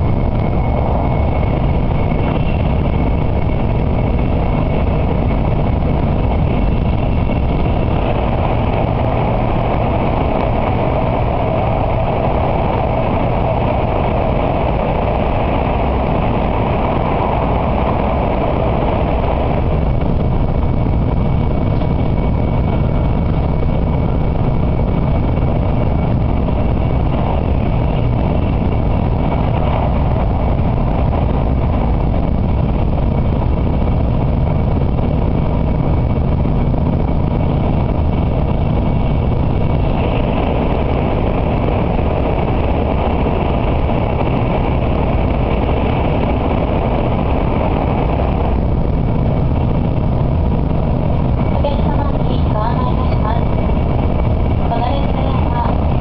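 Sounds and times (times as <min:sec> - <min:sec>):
train cabin rumble: 0:00.0 - 0:56.0.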